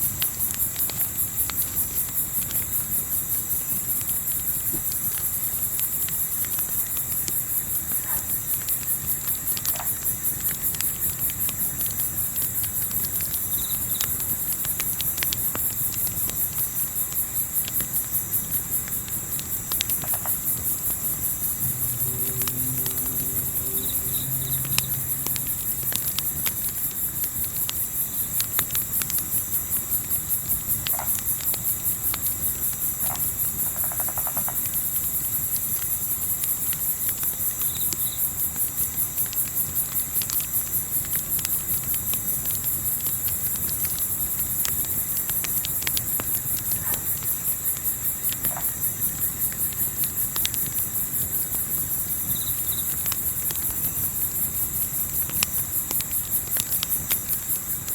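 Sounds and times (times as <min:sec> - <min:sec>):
campfire crackling: 0:00.0 - 0:57.9
crickets chirping: 0:00.0 - 0:57.9.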